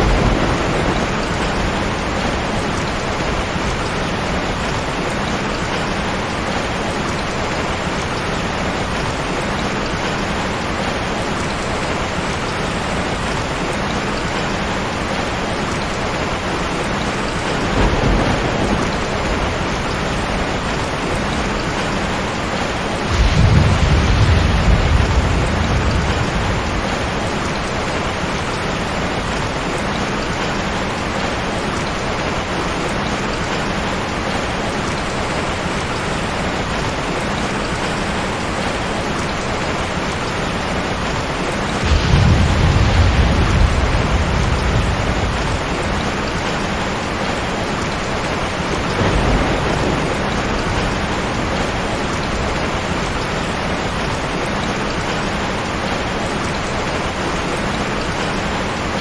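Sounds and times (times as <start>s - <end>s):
thunder rumbling: 0.0s - 30.4s, 38.5s - 56.9s
heavy rain: 0.0s - 59.0s.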